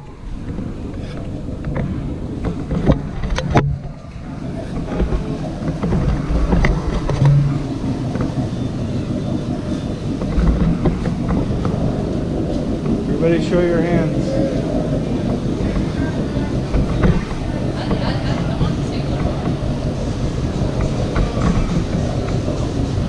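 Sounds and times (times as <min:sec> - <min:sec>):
boat engine rumble: 0:00.0 - 0:23.0
wind on microphone: 0:00.0 - 0:23.0.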